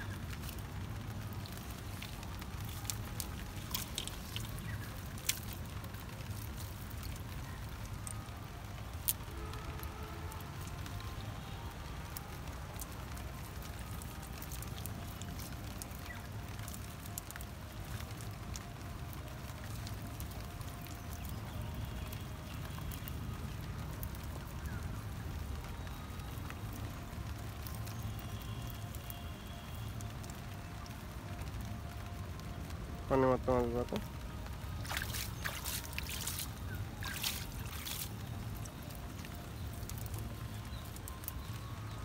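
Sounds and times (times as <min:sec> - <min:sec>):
wet net crackling and pattering: 0:00.0 - 0:42.0.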